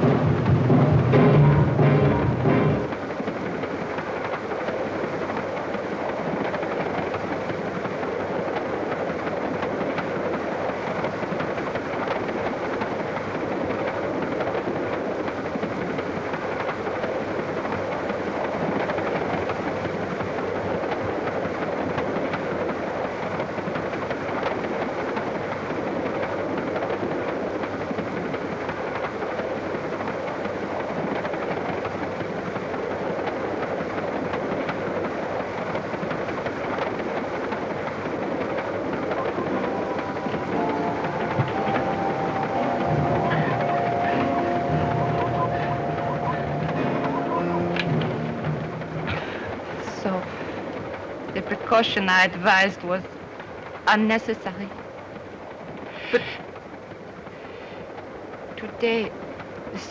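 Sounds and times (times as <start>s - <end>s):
railway carriage rumbling on track: 0.0s - 59.9s.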